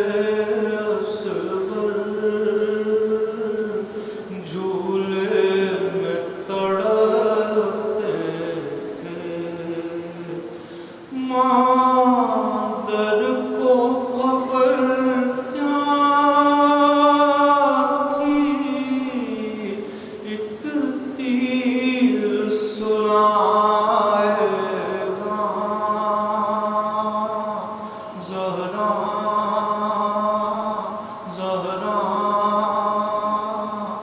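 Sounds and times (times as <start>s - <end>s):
man chanting melodically: 0.0s - 34.0s.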